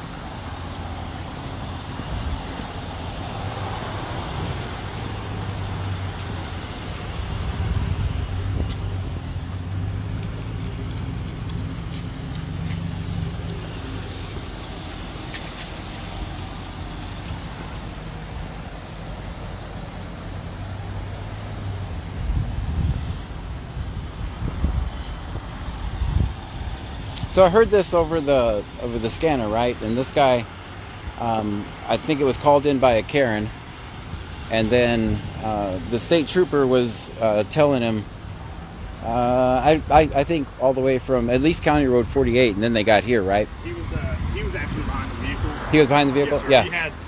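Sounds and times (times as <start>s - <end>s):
vehicle engines rumbling: 0.0s - 47.0s.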